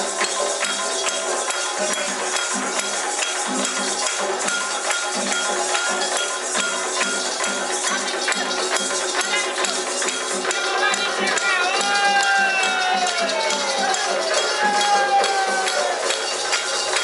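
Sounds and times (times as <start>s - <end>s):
drums: 0.0s - 17.0s.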